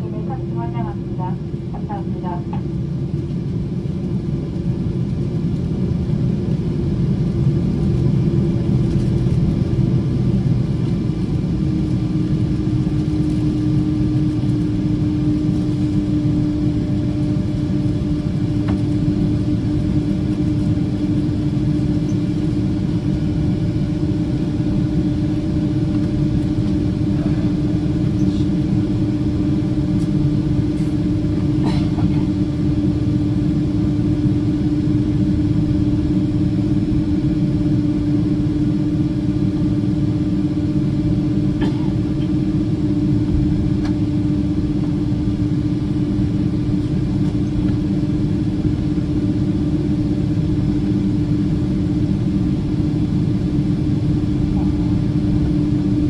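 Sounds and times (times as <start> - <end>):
jet engines at low thrust: 0.0 - 56.0.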